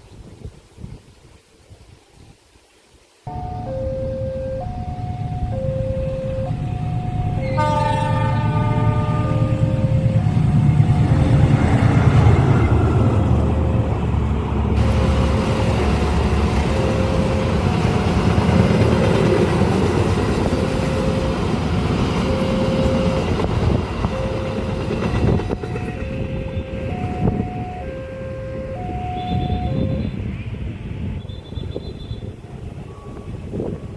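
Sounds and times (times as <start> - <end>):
crossing two-tone warning chime: 3.3 - 30.3, 31.2 - 33.9
train rumbling on rails: 3.3 - 33.9.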